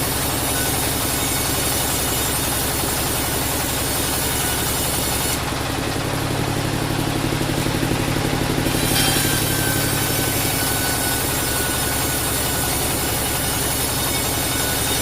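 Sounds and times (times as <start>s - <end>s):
thin steady whine: 0.0s - 5.4s, 6.6s - 15.0s
sawmill machinery droning: 0.0s - 15.0s.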